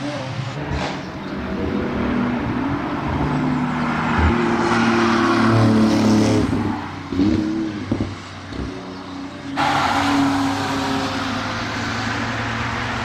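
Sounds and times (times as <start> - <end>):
sports car engine accelerating: 0.4 - 13.0.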